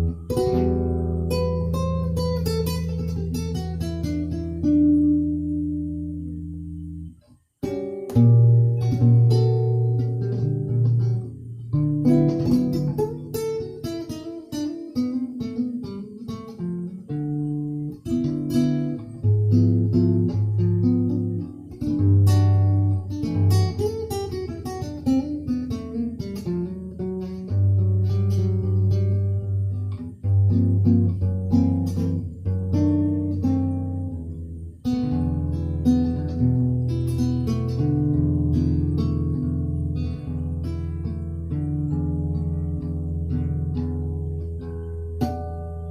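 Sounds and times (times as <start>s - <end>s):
guitar music: 0.0s - 45.9s.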